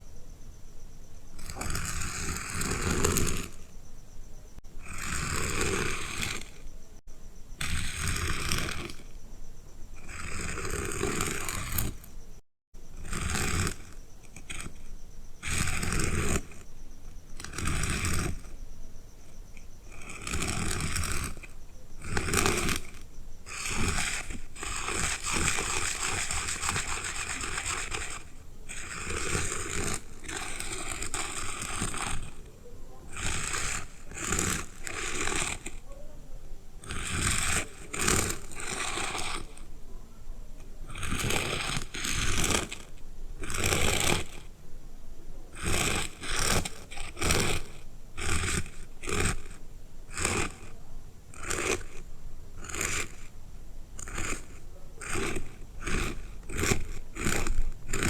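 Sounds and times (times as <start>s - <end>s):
drawing tool scratching paper: 1.4s - 3.8s, 4.8s - 6.7s, 7.6s - 9.2s, 10.0s - 12.1s, 12.9s - 18.6s, 19.2s - 36.0s, 36.8s - 39.7s, 40.8s - 44.5s, 45.5s - 53.3s, 54.0s - 58.0s.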